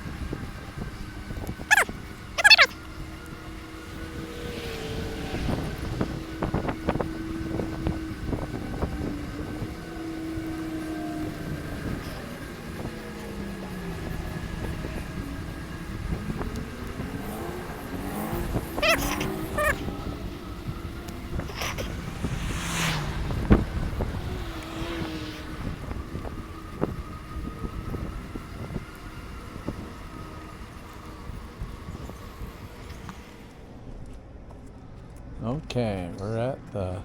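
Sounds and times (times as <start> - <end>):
wind on microphone: 0.0 - 33.4
bicycle tyre rumble: 0.0 - 34.7
humming whine: 0.0 - 35.2.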